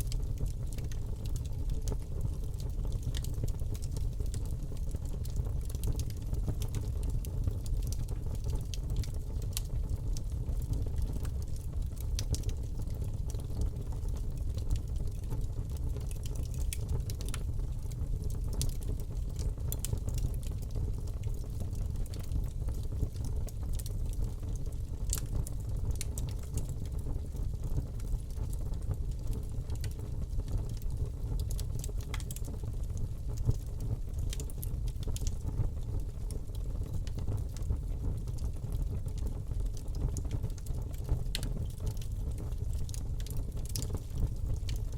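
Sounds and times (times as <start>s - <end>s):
fire crackles and pops: 0.0s - 44.9s
fire flames rumbling: 0.0s - 44.9s.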